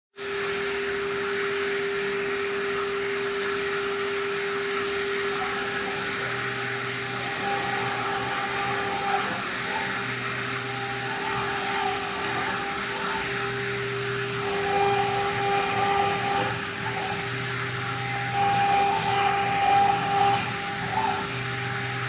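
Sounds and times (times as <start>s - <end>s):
router spindle whine: 0.2s - 22.0s.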